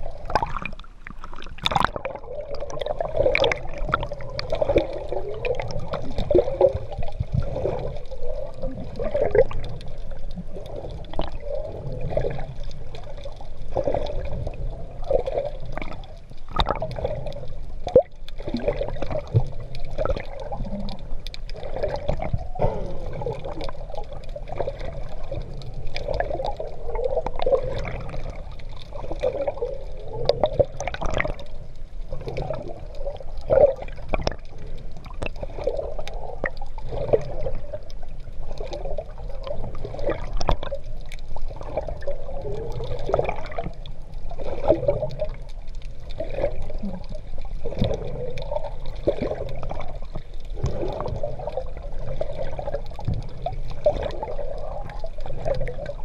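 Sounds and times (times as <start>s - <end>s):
muffled water sloshing and gurgling: 0.0s - 56.0s
small splashes and bubbling: 0.0s - 56.0s.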